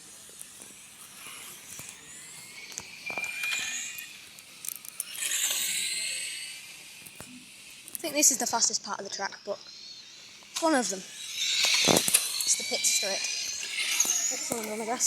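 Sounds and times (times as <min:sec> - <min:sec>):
remote-control buggies whining past: 0:00.4 - 0:15.0.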